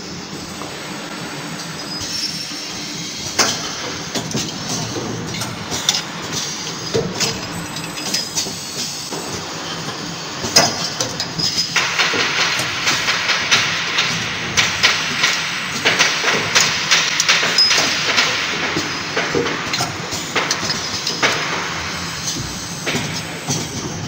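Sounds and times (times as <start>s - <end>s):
lathe machine hiss: 0.0s - 24.0s.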